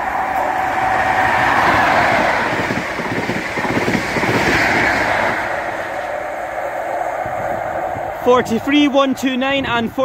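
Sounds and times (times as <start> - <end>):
diesel train engines: 0.0 - 10.0
rumble of train wheels and air: 0.0 - 10.0.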